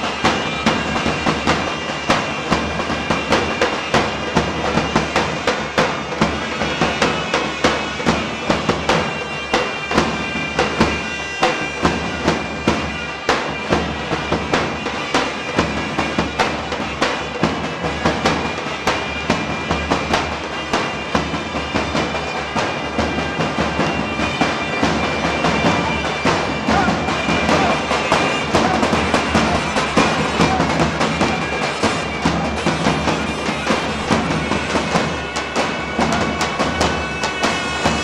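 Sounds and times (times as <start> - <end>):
big drum beating: 0.0 - 38.0
piercing reed wind instrument: 0.0 - 38.0.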